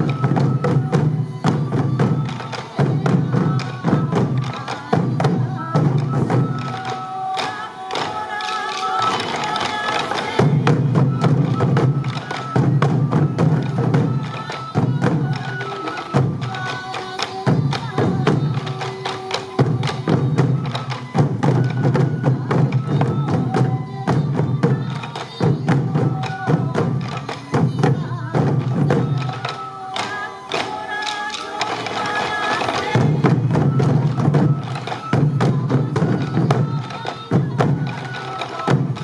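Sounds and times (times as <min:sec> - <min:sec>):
bamboo flute melody: 0:00.0 - 0:39.0
taiko drums in unison: 0:00.0 - 0:39.0.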